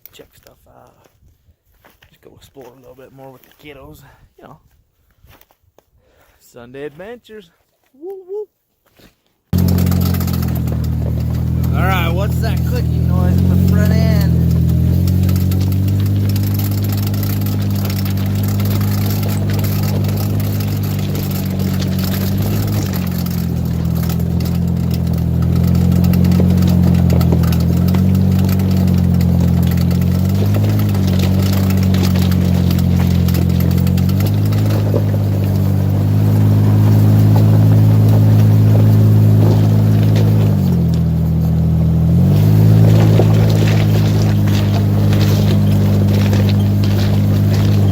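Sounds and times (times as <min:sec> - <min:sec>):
engine running at low speed: 0:09.6 - 0:47.9
quick ticking from front end: 0:09.6 - 0:47.9.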